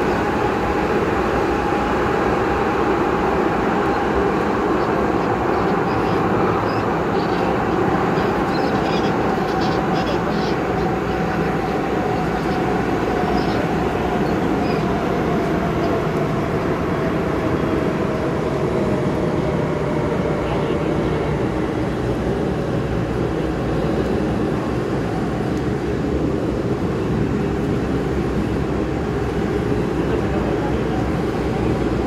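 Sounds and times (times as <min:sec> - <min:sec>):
faint train whine: 0:00.0 - 0:32.0
train wheels rumbling on rail: 0:00.0 - 0:32.0.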